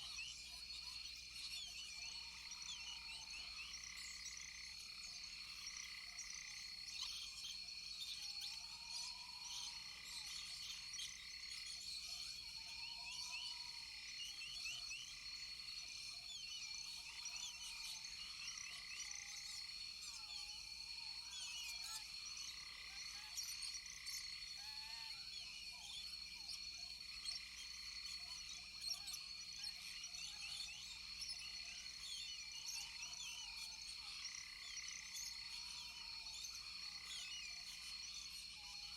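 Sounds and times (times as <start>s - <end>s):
frogs chirping: 0.0s - 38.9s.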